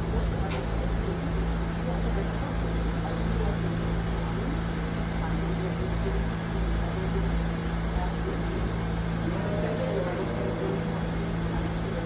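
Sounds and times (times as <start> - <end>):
subway train humming: 0.0 - 12.0.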